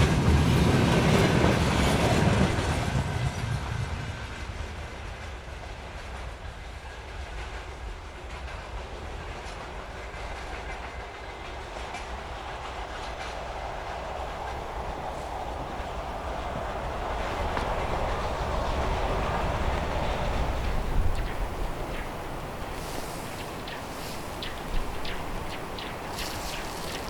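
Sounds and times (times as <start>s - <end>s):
train running past: 0.0s - 27.0s.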